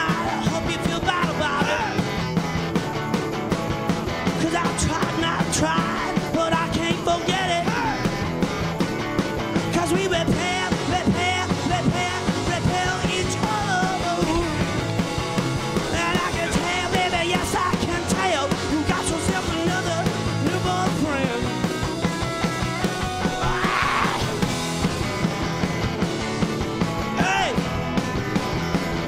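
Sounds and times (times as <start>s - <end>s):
song with vocals and band: 0.0s - 29.0s.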